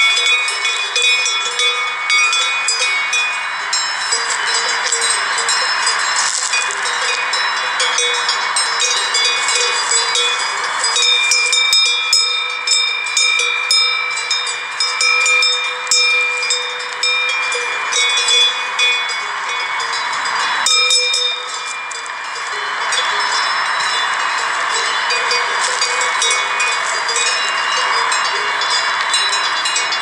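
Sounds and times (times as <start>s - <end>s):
sheep bells clinking: 0.0s - 30.0s.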